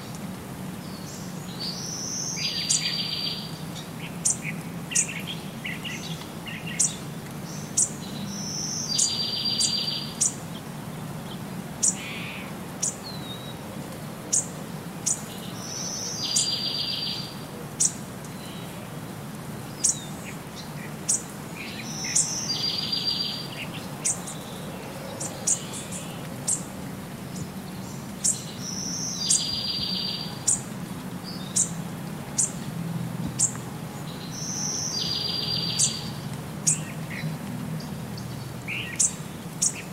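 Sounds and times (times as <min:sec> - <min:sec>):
birds chirping: 0:00.8 - 0:13.7, 0:14.3 - 0:19.0, 0:19.6 - 0:39.9.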